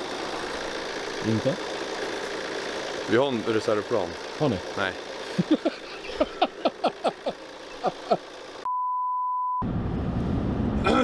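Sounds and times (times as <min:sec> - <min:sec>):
car engine hum and road noise: 0:00.0 - 0:08.7, 0:09.6 - 0:11.0.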